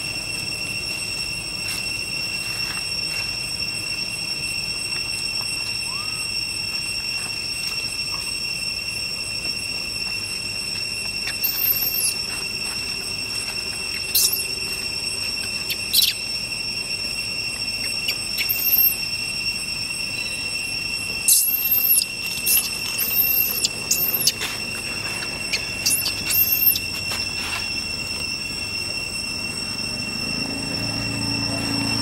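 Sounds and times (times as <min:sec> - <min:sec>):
insects droning: 0:00.0 - 0:32.0
very high squeaks: 0:00.0 - 0:32.0.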